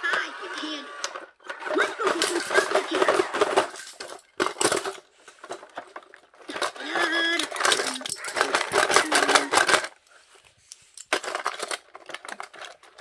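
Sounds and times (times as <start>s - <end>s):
toy cars clattering into plastic: 0.0s - 10.1s, 10.7s - 13.0s.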